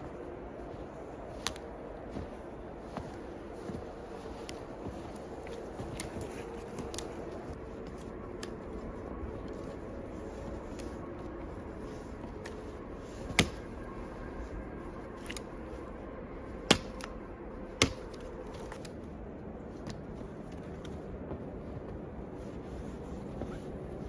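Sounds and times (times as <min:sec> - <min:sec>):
steady low background noise: 0:00.0 - 0:24.0.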